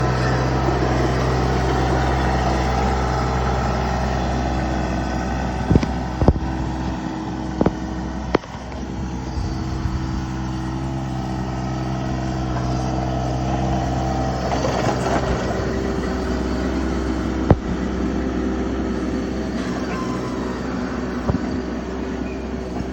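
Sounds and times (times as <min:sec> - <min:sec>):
skid steer engine running: 0:00.0 - 0:22.9.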